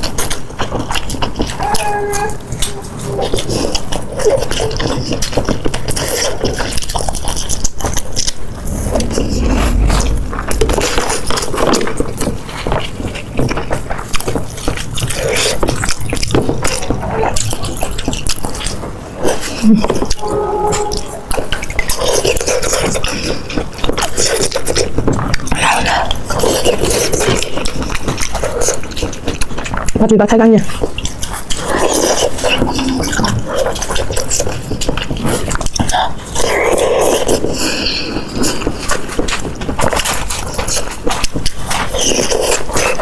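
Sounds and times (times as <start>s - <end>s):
person biting and chewing food: 0.0s - 30.0s, 30.7s - 43.0s.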